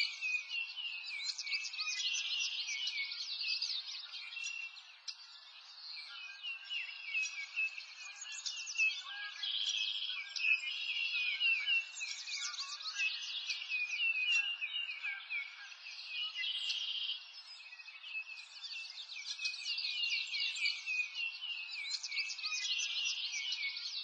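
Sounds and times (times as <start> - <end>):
chorus of high-pitched chirping: 0.0 - 24.0.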